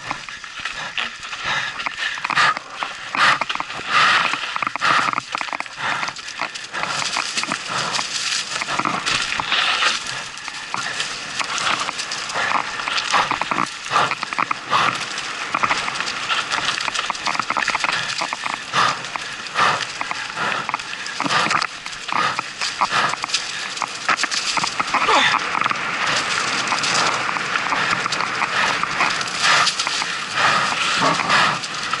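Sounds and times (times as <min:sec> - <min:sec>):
bike frame and chain rattling: 0:00.0 - 0:32.0
bike tyres on dirt trail: 0:00.0 - 0:32.0.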